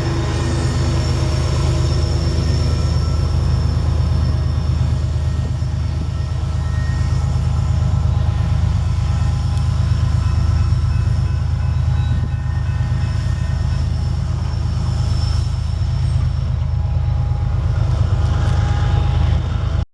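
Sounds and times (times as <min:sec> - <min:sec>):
diesel locomotive engine drone: 0:00.0 - 0:19.9.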